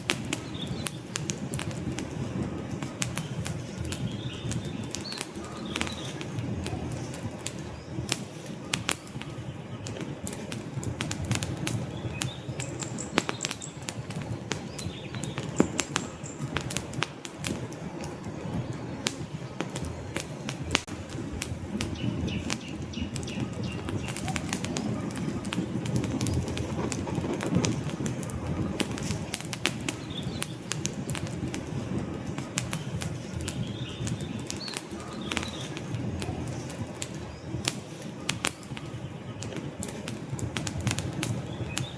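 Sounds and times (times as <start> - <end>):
log fire crackling and popping: 0.0 - 41.9
low rumble of flames: 0.0 - 41.9.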